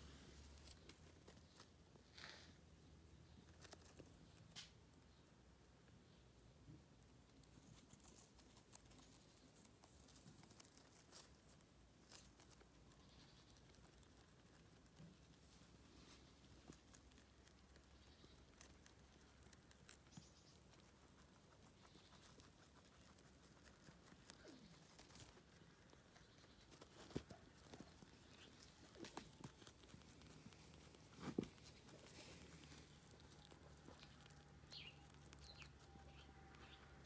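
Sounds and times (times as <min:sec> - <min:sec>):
rabbits chewing leaves: 0:00.0 - 0:37.0.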